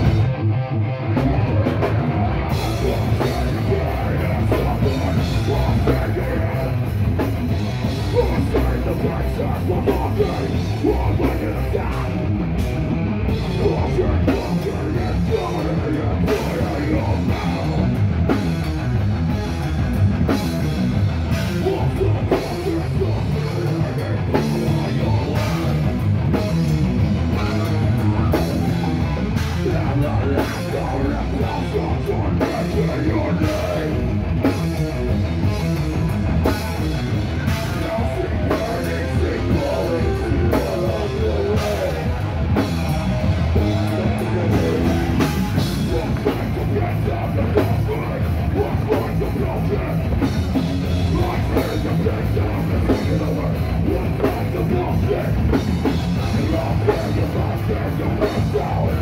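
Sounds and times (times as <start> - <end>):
distorted electric guitars: 0.0 - 59.0.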